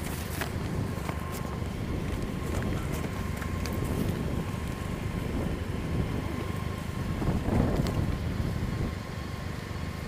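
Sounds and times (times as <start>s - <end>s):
wind on microphone: 0.0s - 9.1s
scooter engine running: 0.0s - 10.0s.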